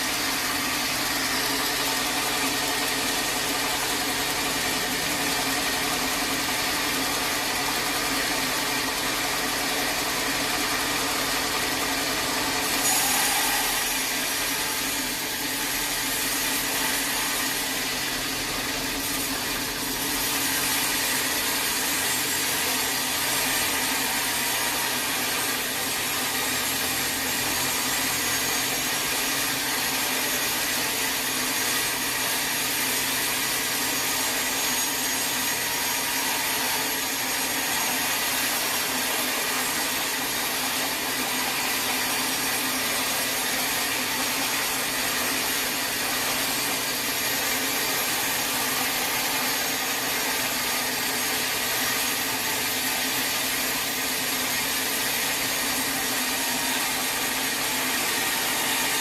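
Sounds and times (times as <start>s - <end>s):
saw cutting through wood: 0.0s - 59.0s.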